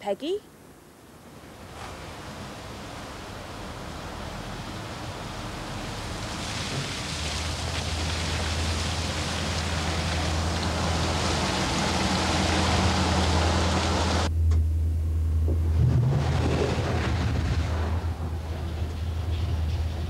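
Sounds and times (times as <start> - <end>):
train rushing noise: 1.6 - 14.3, 15.6 - 20.0
train engine drone: 1.7 - 6.5, 7.2 - 20.0.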